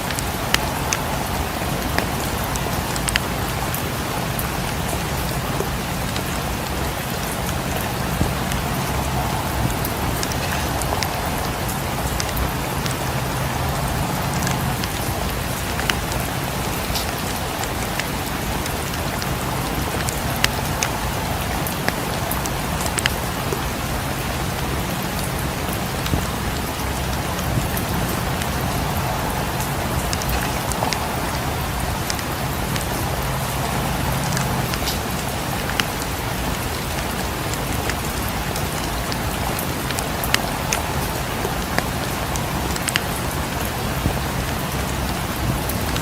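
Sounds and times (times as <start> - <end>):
rain against windows: 0.0 - 46.0
wood fire crackling: 0.0 - 46.0.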